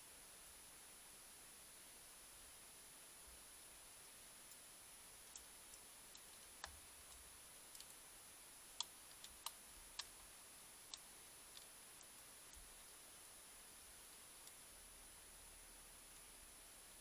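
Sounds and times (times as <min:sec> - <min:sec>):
camera hiss: 0:00.0 - 0:17.0.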